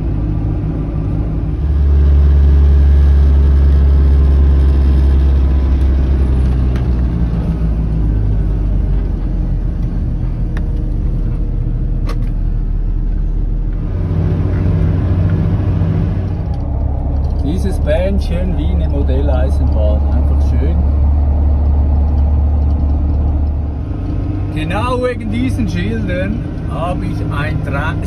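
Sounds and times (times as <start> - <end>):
diesel truck engine droning: 0.0 - 28.0.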